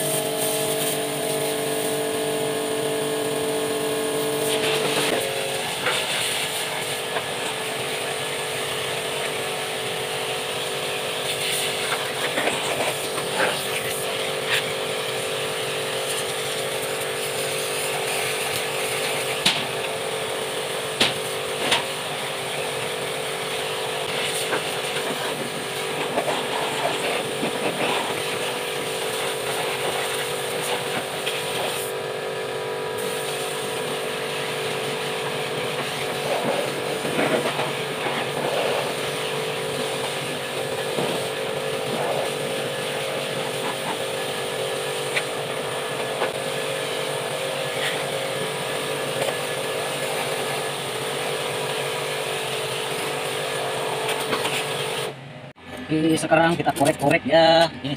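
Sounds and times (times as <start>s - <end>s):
water jet hissing on metal: 0.0s - 55.1s
pressure washer motor hum: 0.0s - 57.9s.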